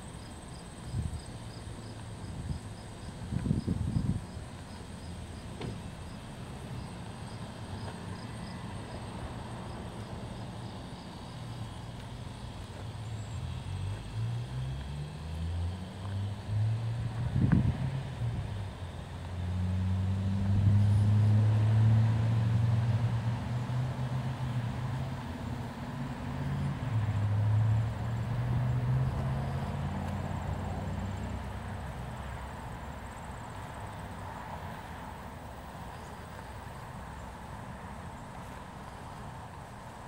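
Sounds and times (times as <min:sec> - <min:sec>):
passing vehicle engine drone: 0:00.0 - 0:40.0.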